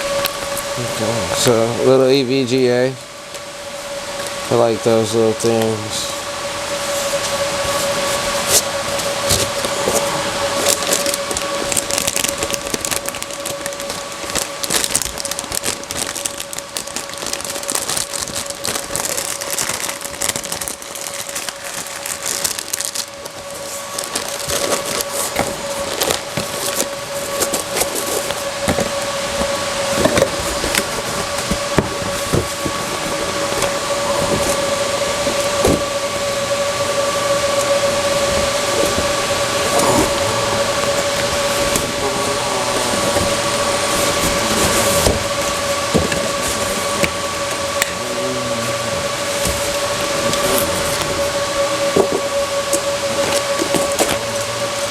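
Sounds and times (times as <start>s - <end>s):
steady hum: 0.0s - 54.9s
rustling of packaging: 6.8s - 35.9s, 38.2s - 54.5s.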